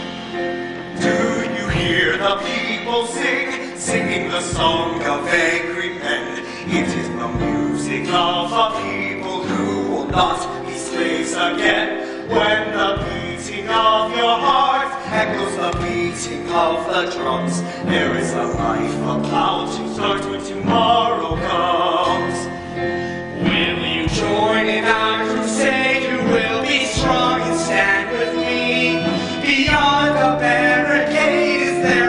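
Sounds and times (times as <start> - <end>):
chorus singing with orchestra: 0.0 - 32.0.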